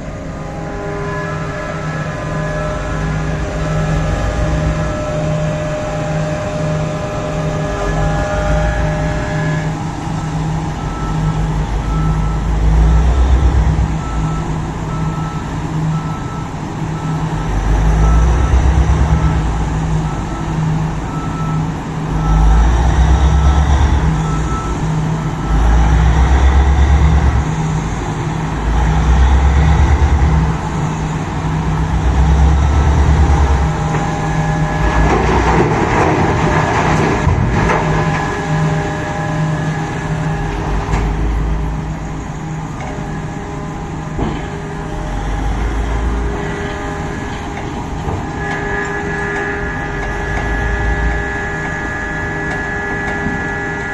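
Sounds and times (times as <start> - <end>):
beeping alarm: 0.0 - 53.9
excavator engine surging: 0.0 - 53.9.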